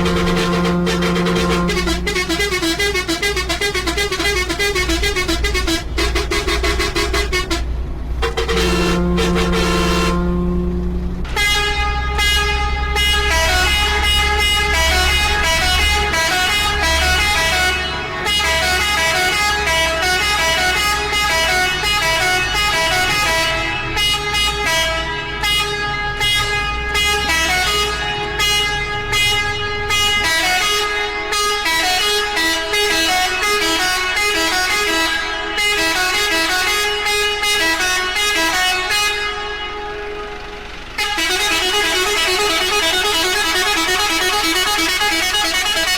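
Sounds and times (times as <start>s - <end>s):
musical air horn melody: 0.0s - 7.6s, 8.2s - 45.9s.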